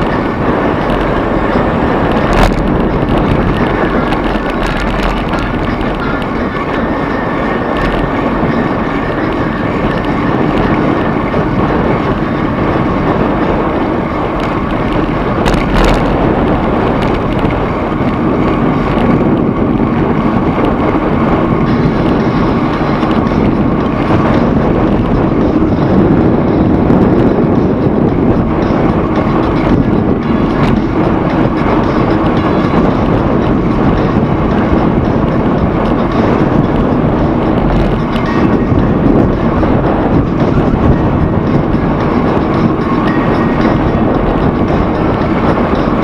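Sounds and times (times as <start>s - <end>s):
moving vehicle running: 0.0s - 46.0s
wind on microphone: 0.0s - 46.0s.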